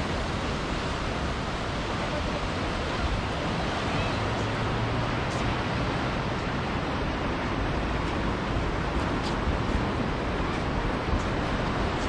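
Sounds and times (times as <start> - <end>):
ocean surf washing over rocks: 0.0 - 12.0
rain: 0.0 - 12.0.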